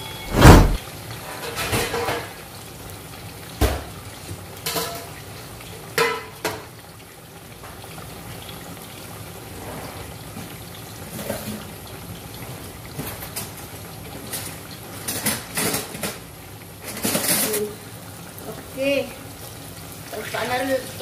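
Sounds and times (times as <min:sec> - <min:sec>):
eggplant sizzling in oil: 0:00.8 - 0:21.0.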